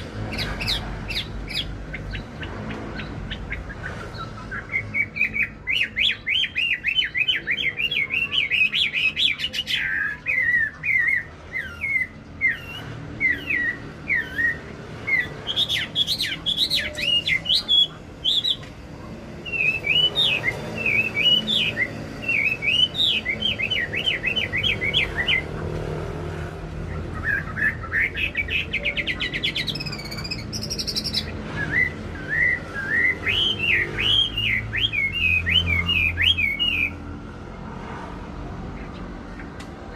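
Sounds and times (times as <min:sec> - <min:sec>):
bird chirping and whistling: 0:00.0 - 0:18.7, 0:19.4 - 0:25.5, 0:27.1 - 0:37.0.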